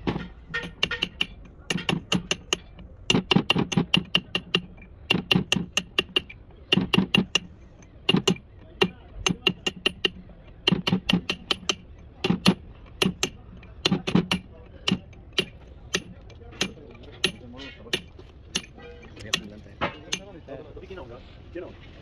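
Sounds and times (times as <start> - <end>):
hammer tapping on metal: 0.0 - 20.6.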